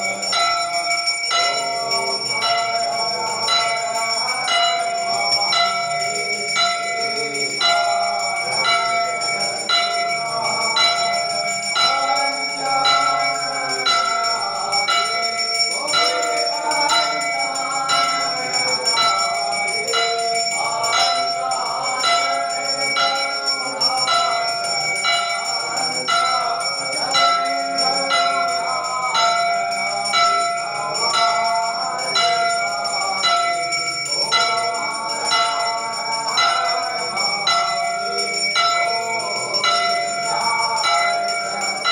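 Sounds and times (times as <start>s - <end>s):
temple bell ringing: 0.0s - 41.9s
voices singing: 0.0s - 41.9s.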